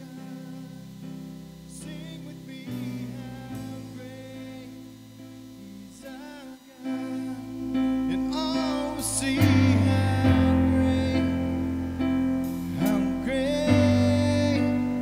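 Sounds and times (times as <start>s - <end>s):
man singing slow song: 0.0s - 15.0s
synthesizer chords: 0.0s - 15.0s.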